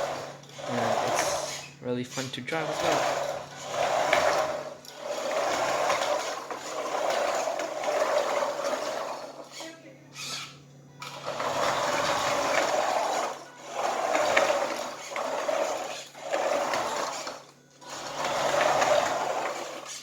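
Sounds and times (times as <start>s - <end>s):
electric motor and gears whirring: 0.0s - 20.0s.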